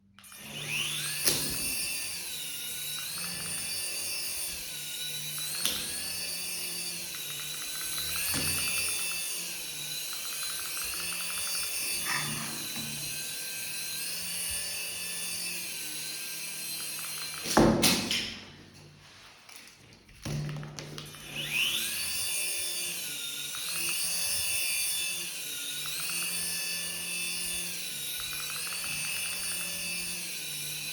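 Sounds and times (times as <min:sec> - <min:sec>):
toy helicopter motor whining: 0:00.2 - 0:17.8, 0:21.0 - 0:30.9.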